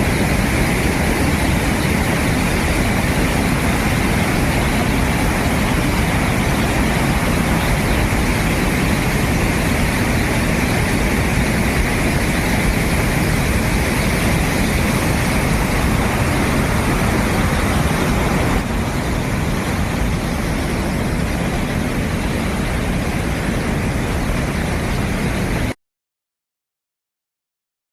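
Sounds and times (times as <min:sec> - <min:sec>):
waterfall rushing: 0:00.0 - 0:25.8.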